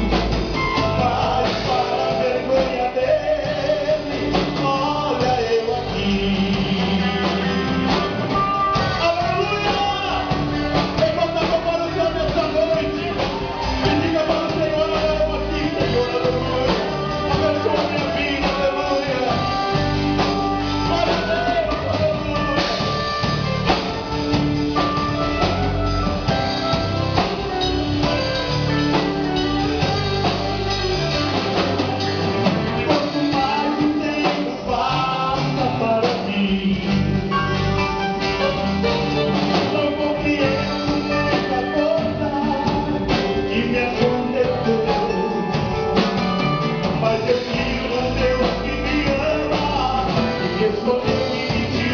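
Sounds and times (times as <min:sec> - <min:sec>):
drum kit: 0:00.0 - 0:51.9
guitar: 0:00.0 - 0:51.9
person singing: 0:00.0 - 0:51.9.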